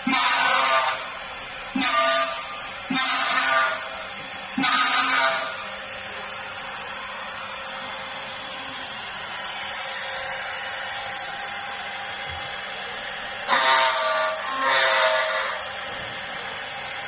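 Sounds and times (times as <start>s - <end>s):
router bit cutting plastic: 0.0s - 10.6s, 11.4s - 17.0s
cnc router spindle whirring: 0.0s - 17.0s.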